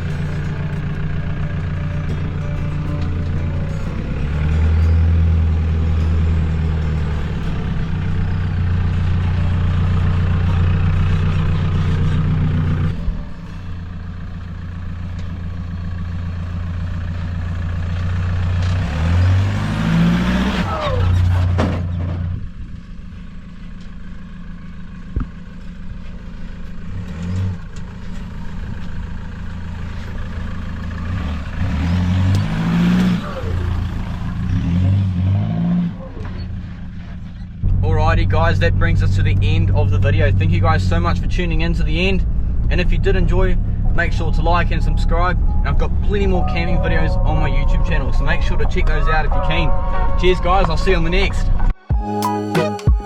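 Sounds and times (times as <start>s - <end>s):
truck engine revving: 0.0s - 51.8s.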